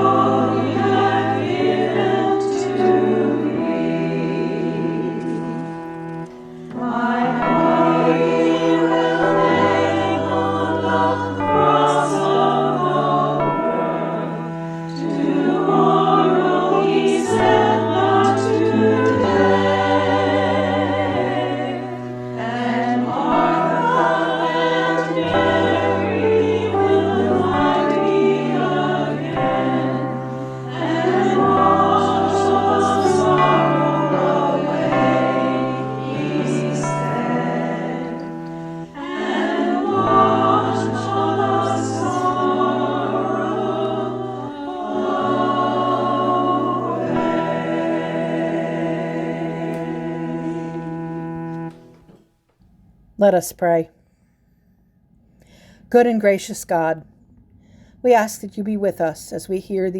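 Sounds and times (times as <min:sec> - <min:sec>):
choir singing a hymn: 0:00.0 - 0:52.2
sustained bass notes: 0:00.0 - 0:52.2.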